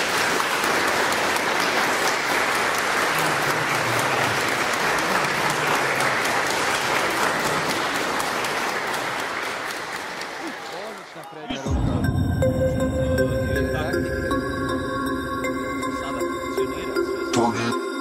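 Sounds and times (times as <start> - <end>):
crowd applauding and cheering: 0.0 - 17.4.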